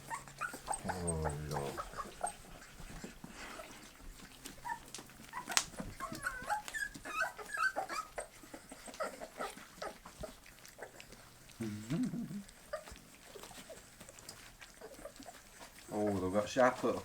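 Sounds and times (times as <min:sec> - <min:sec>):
puppies chewing and lip-smacking: 0:00.0 - 0:17.0
puppies whimpering: 0:00.0 - 0:17.0.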